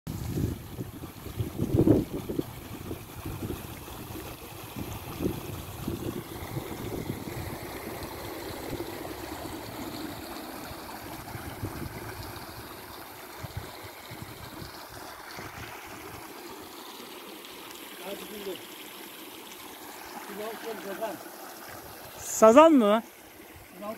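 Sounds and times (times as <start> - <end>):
stream trickling over stones: 0.1 - 23.9.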